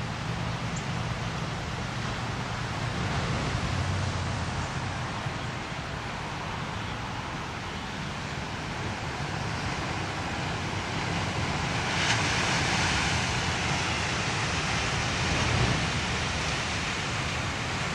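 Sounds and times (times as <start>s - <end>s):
wave crashing with spray: 0.1s - 5.3s, 8.3s - 17.9s
ocean waves breaking on rocks: 1.0s - 6.5s, 7.2s - 17.9s.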